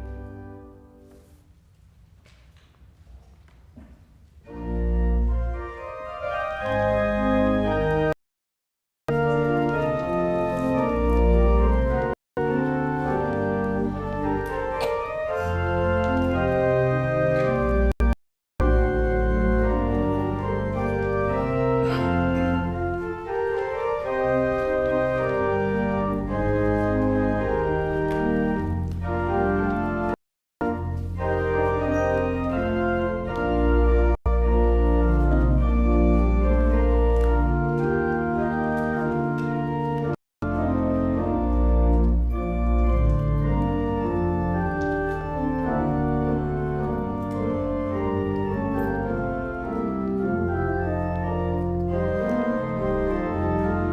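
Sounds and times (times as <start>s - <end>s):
church organ chords: 0.0s - 1.2s, 4.4s - 8.2s, 9.1s - 53.9s.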